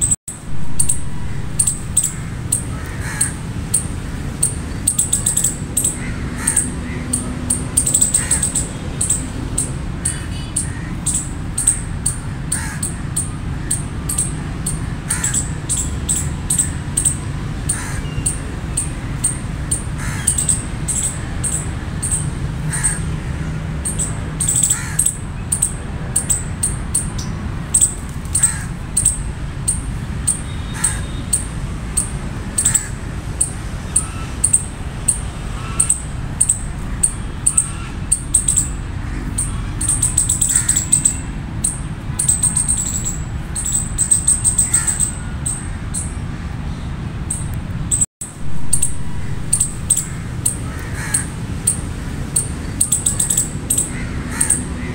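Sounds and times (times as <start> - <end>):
fainter lower squirrel calls: 0.0 - 46.4, 47.3 - 54.9
squirrels chirping: 0.0 - 54.9.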